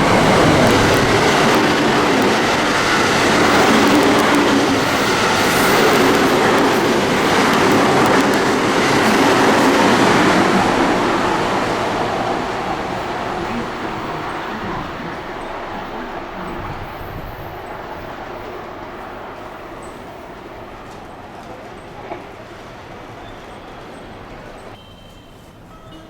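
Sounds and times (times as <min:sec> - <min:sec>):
train passing at speed: 0:00.0 - 0:26.0
wheels rushing on rail: 0:00.0 - 0:26.0.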